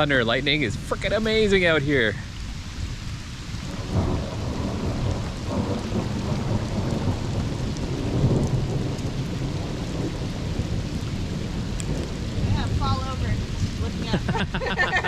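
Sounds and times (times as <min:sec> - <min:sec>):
low rumble of thunder: 0:00.0 - 0:15.0
rain falling: 0:00.0 - 0:15.0.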